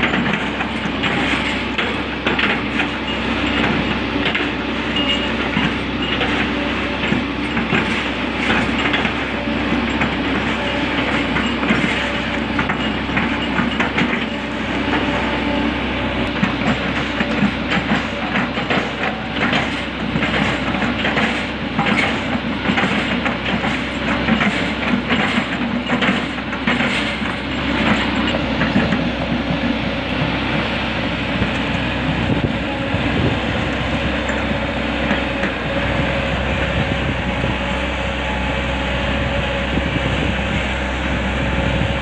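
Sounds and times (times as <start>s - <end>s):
diesel engine drone: 0.0s - 42.0s.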